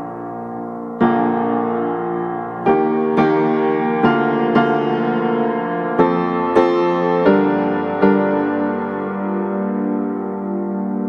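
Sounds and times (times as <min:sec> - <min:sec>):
slow piano piece: 0:00.0 - 0:11.0.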